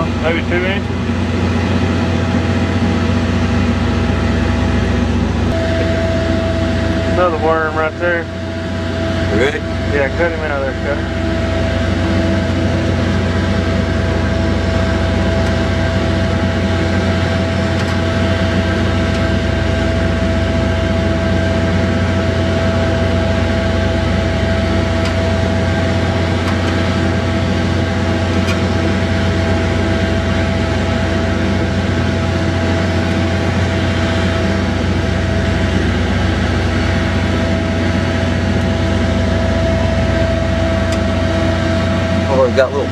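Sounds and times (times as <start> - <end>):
constant whine: 0.0 - 42.9
steady mechanical hum: 0.0 - 42.9.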